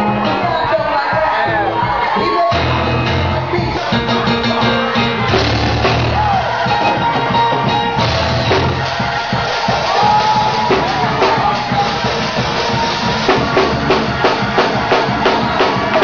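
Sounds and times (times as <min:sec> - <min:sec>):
drum kit beat: 0:00.0 - 0:16.0
gospel music on keyboards: 0:00.0 - 0:16.0.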